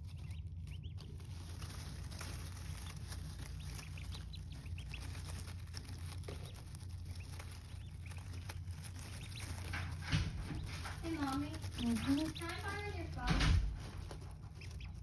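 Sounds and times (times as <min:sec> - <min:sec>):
ducklings peeping: 0:00.0 - 0:15.0
pecking at plastic feeder: 0:00.0 - 0:15.0
rustling wood shavings: 0:00.0 - 0:15.0
steady low hum: 0:00.0 - 0:15.0.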